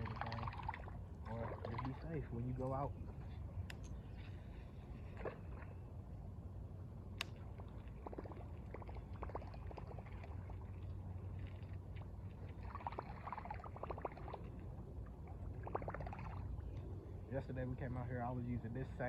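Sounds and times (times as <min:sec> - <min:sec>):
river water trickling: 0:00.0 - 0:19.0.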